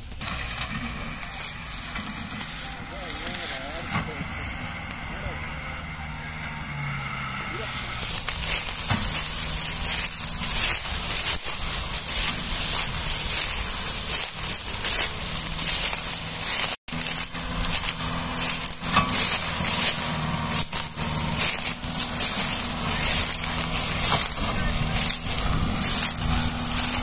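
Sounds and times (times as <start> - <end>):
diesel tractor engine idling: 0.0 - 27.0
dry sugarcane crackling and crunching: 0.0 - 27.0.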